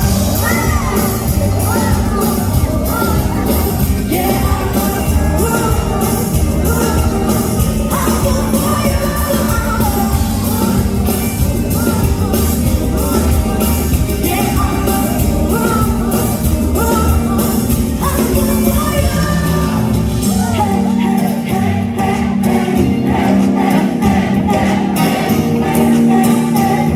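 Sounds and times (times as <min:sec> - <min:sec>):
live band playing: 0:00.0 - 0:26.9
woman singing: 0:00.0 - 0:26.9.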